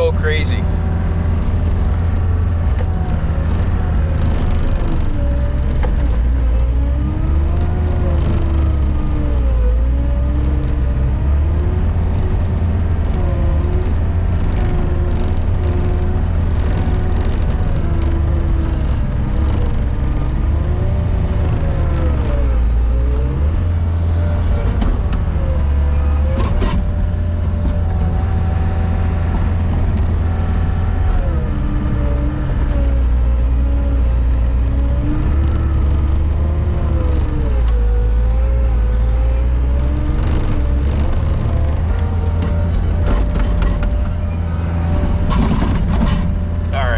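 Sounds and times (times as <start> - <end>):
diesel engine running under load: 0.0 - 46.9
rising and falling whine: 0.0 - 46.9.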